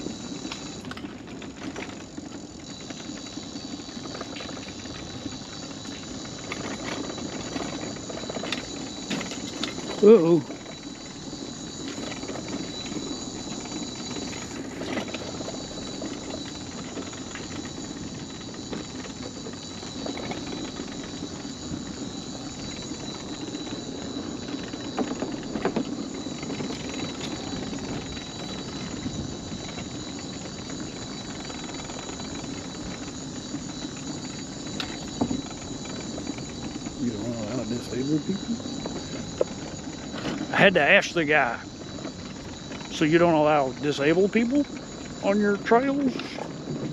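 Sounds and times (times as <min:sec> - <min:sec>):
wheels rumbling on wooden boardwalk: 0:00.0 - 0:46.9.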